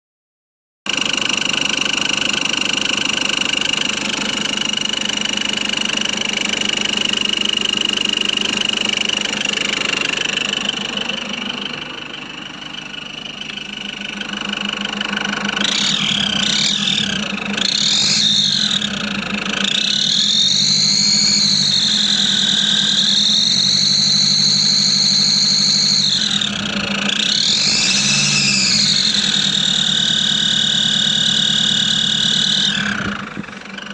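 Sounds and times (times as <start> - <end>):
diesel engine idling and revving: 0.9 - 33.9
high-pitched engine whistle: 0.9 - 33.9.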